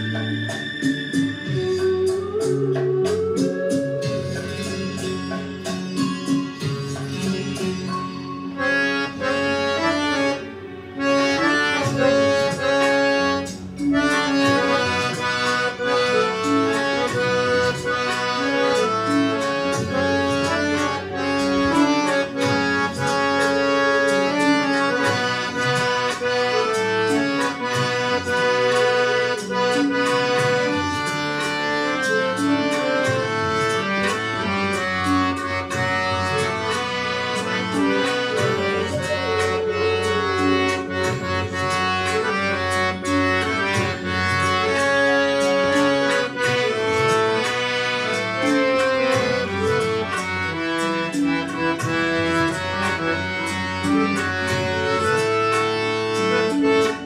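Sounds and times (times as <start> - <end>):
harmonium playing: 0.0 - 57.0.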